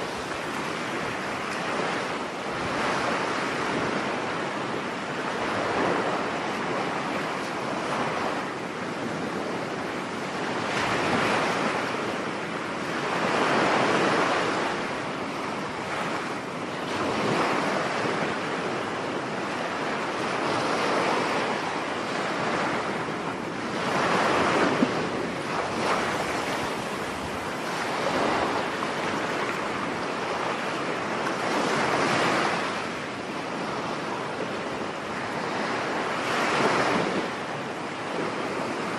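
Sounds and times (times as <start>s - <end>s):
waves breaking on a beach: 0.0s - 38.9s
wind blowing across microphone: 0.0s - 38.9s.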